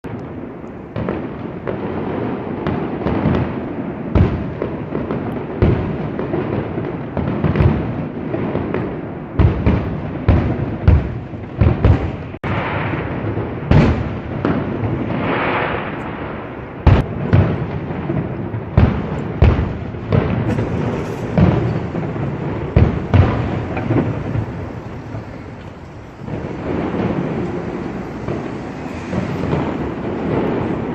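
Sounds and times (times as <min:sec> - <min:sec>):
fireworks bangs: 0:00.0 - 0:30.9
rumble and crackle of fireworks: 0:00.0 - 0:30.9.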